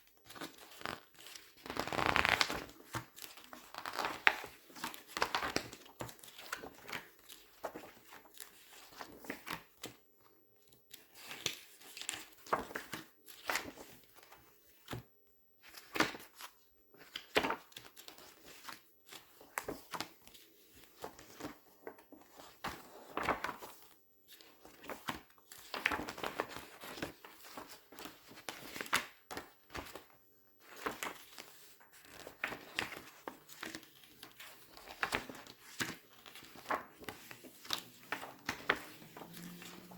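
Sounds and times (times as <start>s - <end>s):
paper pages crinkling: 0.3s - 9.6s, 15.8s - 39.9s.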